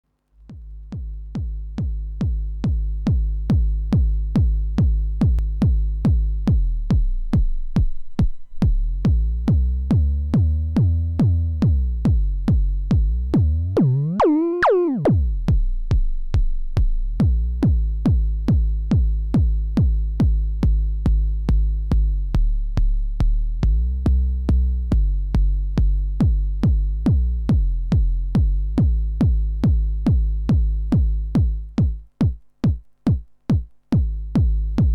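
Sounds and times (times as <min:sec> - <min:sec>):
drum machine bass drum beat: 0:00.4 - 0:34.9.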